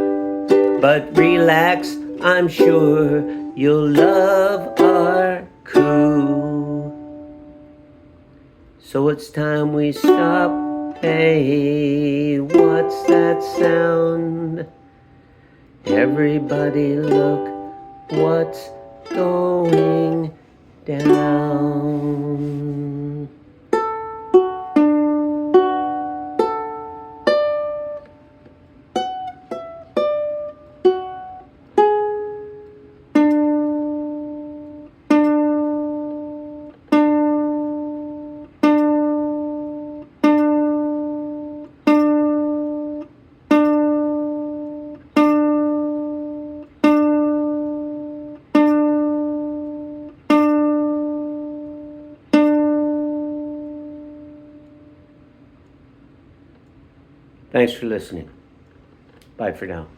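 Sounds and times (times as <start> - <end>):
plucked string instrument: 0.0 - 59.5.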